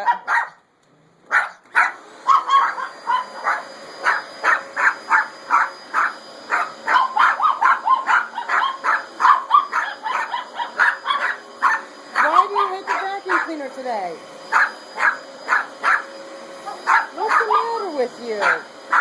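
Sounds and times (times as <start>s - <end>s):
small dog barking: 0.0s - 0.6s, 1.3s - 13.6s, 14.5s - 19.0s.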